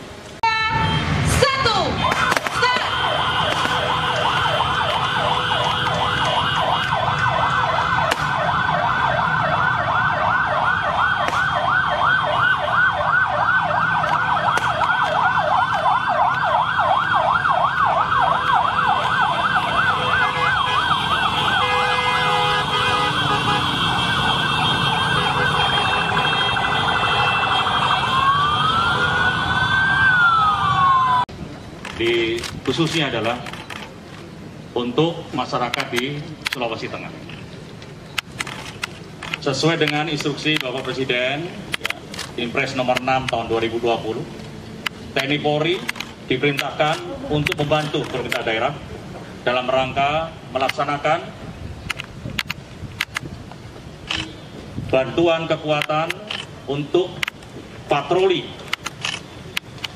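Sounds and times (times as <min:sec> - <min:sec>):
police sirens yelping and wailing: 0:00.4 - 0:59.9.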